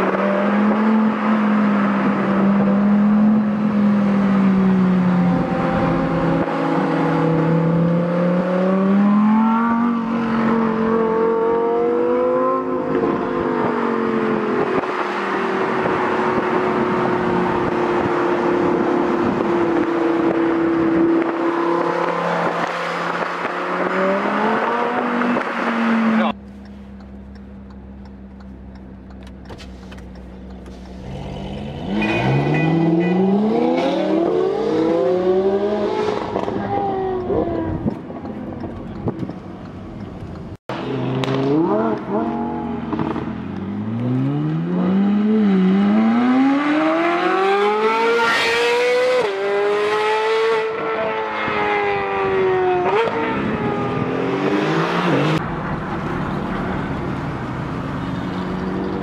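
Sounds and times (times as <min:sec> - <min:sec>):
sports car engine accelerating: 0:00.0 - 0:59.0.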